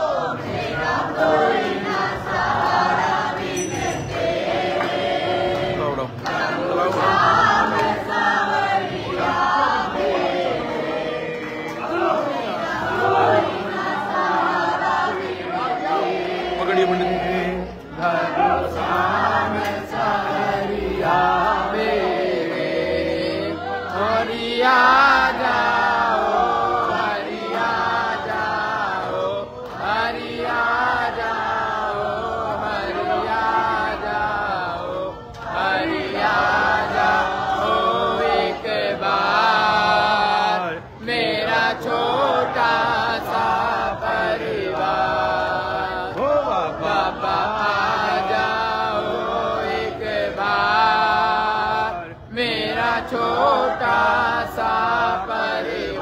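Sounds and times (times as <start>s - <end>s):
group of voices chanting: 0.0s - 56.0s.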